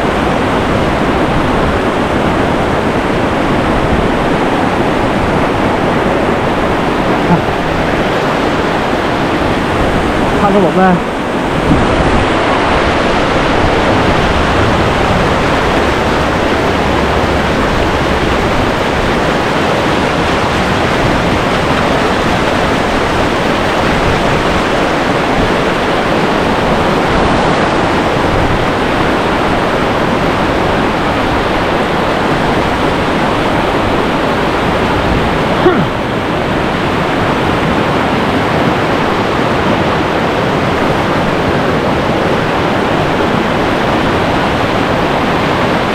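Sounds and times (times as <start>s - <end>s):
river rapid rushing: 0.0s - 45.9s.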